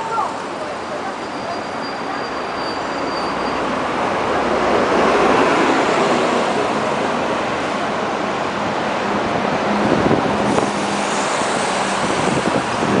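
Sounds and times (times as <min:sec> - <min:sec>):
cars passing: 0:00.0 - 0:13.0.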